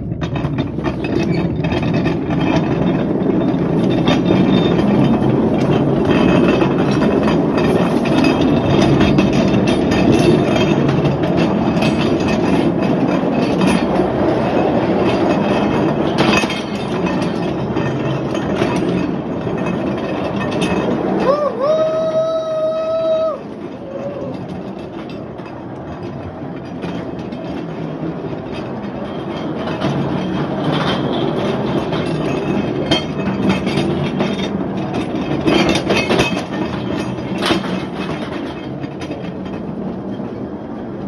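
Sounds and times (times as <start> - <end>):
metal clanks: 0.0 - 40.4
mine car wheels rumbling on rails: 0.0 - 41.0.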